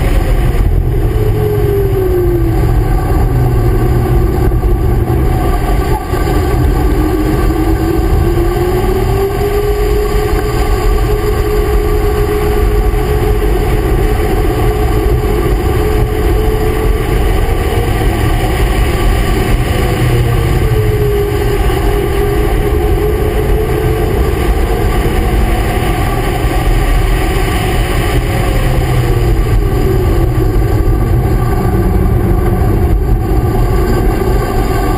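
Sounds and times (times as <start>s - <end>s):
car engine running at speed: 0.0s - 34.9s
wind and road noise: 0.0s - 34.9s.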